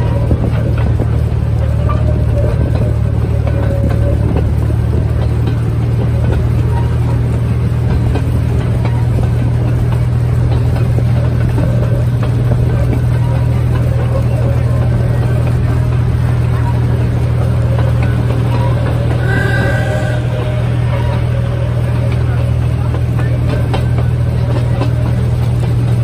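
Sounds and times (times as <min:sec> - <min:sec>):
train engine droning: 0:00.0 - 0:26.0.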